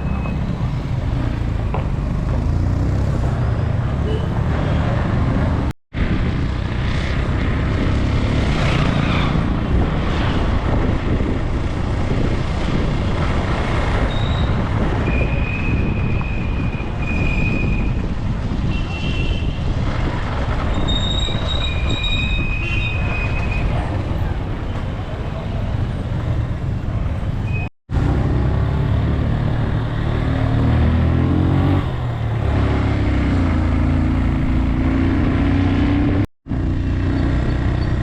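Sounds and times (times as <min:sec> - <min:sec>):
street traffic rumble: 0:00.0 - 0:38.0.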